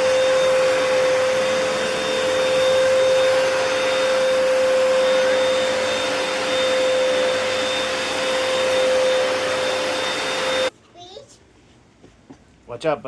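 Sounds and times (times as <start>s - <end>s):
carpet cleaner suction motor: 0.0s - 10.7s.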